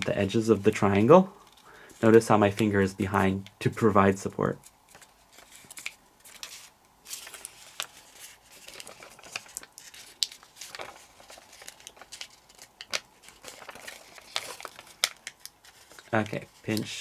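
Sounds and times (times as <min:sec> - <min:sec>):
paper crinkling and crackling: 0:00.0 - 0:17.0.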